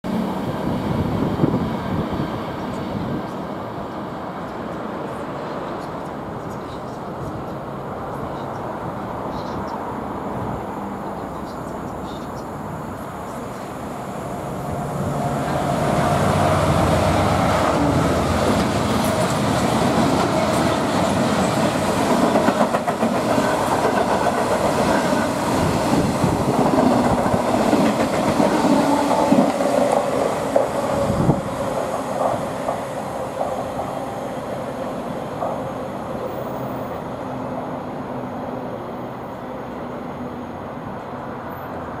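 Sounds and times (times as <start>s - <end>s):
diesel locomotive engine passing: 0.1s - 42.0s.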